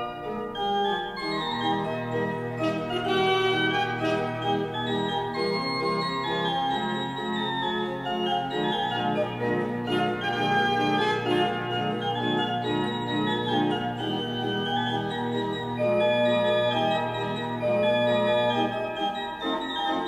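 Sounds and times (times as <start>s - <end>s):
pipe organ playing: 0.0s - 20.0s.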